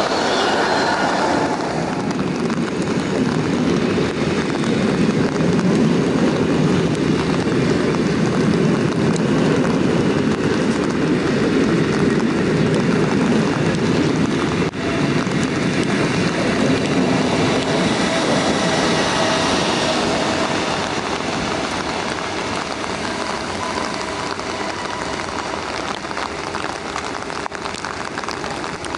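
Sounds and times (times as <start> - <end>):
steady rain: 0.0 - 28.9
train rolling on rails: 0.0 - 28.9.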